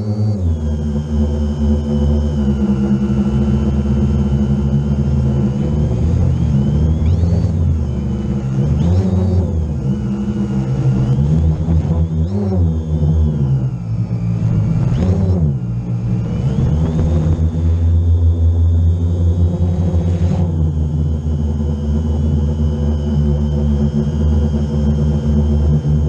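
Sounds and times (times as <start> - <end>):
drone propellers whirring: 0.0 - 26.0.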